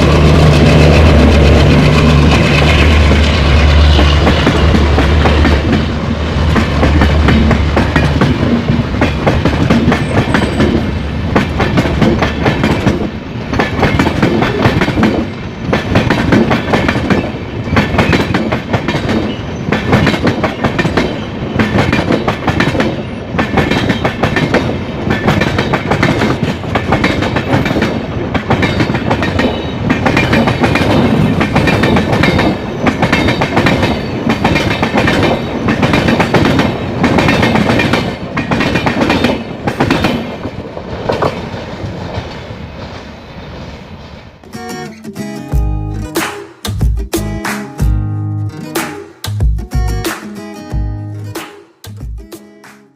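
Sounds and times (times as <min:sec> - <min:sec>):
train wheels clattering over rail joints: 0:00.0 - 0:44.4
diesel locomotive drone: 0:00.0 - 0:46.2.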